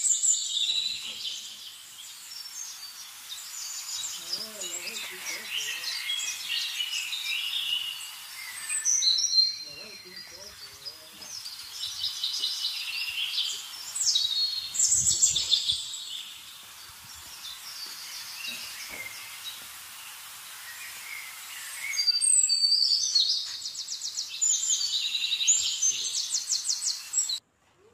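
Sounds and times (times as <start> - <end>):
small birds chirping and trilling: 0.0 - 27.4
outdoor background hiss: 0.0 - 27.9.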